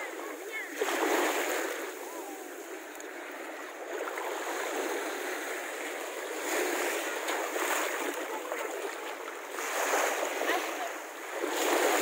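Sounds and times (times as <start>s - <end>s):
waves washing onto sandy shore: 0.0s - 12.0s.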